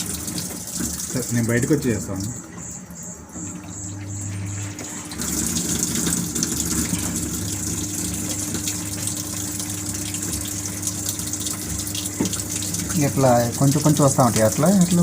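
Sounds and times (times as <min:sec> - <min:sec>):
steady low hum: 0:00.0 - 0:15.0
water rushing into washing machine: 0:00.0 - 0:15.0.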